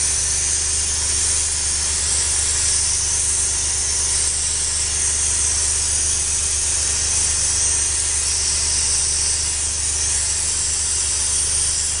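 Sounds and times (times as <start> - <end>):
blasting gun hissing: 0.0 - 12.0.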